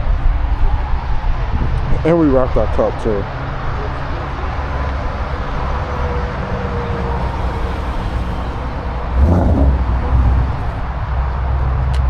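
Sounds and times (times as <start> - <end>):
car engine idling: 2.2 - 12.0.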